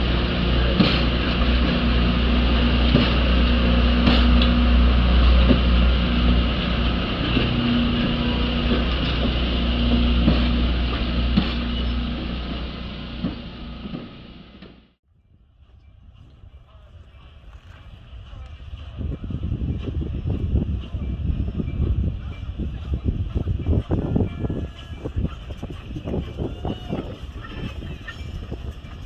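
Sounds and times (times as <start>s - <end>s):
train wheels rumbling on rails: 0.0s - 29.0s
wheels clicking over rail joints: 0.3s - 14.8s, 16.1s - 29.0s.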